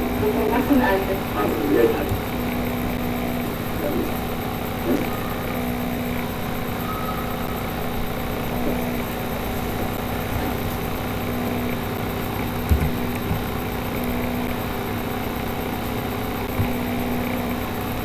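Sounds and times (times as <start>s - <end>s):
background hum and hiss: 0.0s - 18.0s.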